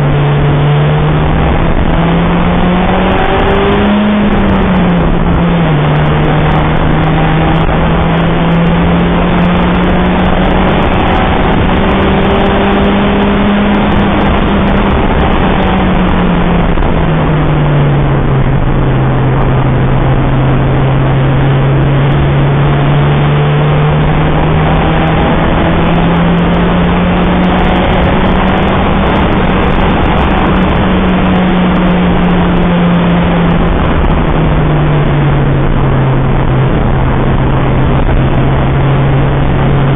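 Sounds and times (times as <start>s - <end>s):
car engine pulling hard: 0.0s - 39.9s
wind and road noise: 0.0s - 39.9s.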